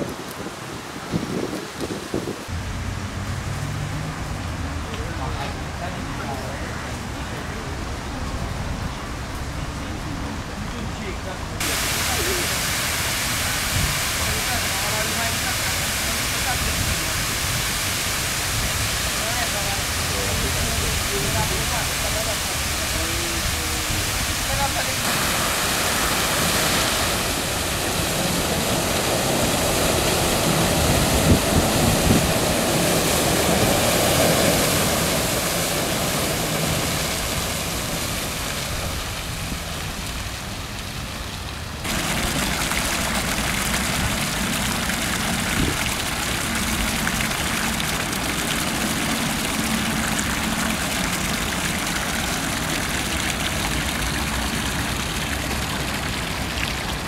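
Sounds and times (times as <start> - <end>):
fountain water splashing: 0.0 - 57.0.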